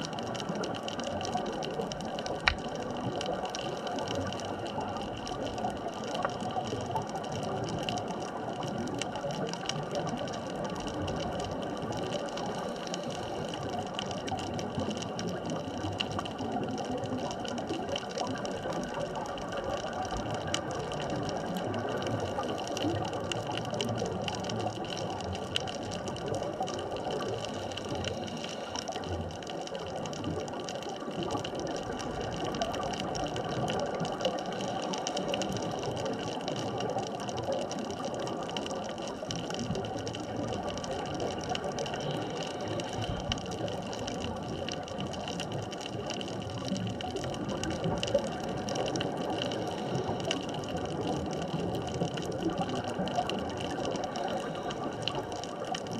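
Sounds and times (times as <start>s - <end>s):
crackle of tiny clicks: 0.0s - 55.9s
underwater wash of noise: 0.0s - 55.9s.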